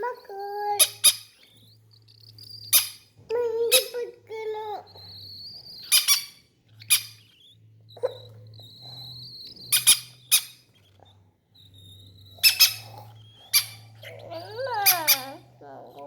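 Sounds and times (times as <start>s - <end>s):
parrots squawking: 0.0s - 16.0s.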